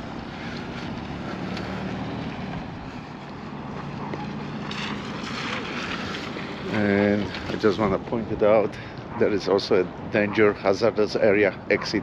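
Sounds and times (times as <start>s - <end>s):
engine running with low hum: 0.0s - 12.0s
wind: 0.0s - 12.0s.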